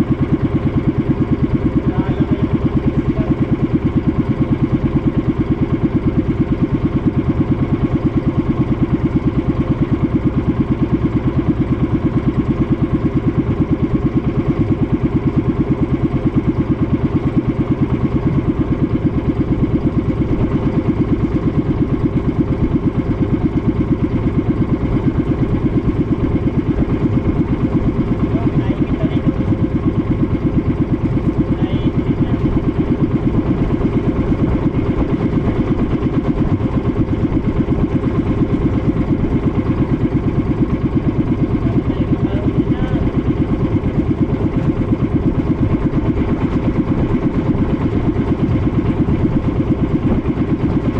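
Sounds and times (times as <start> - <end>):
boat engine chugging: 0.0 - 50.9.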